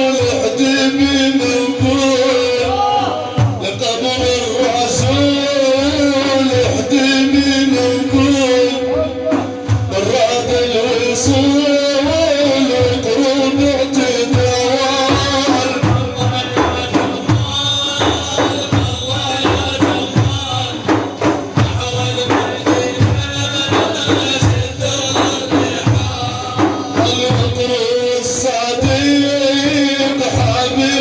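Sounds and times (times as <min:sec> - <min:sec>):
hand percussion rhythm: 0:00.0 - 0:31.0.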